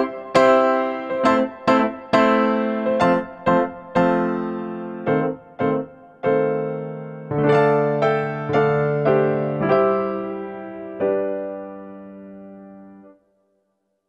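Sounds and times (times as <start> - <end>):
slow piano melody: 0.0 - 13.6.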